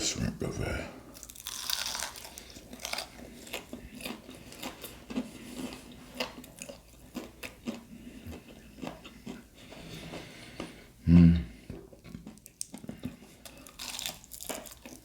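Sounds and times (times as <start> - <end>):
crunchy chewing: 1.1 - 10.8, 11.6 - 15.0.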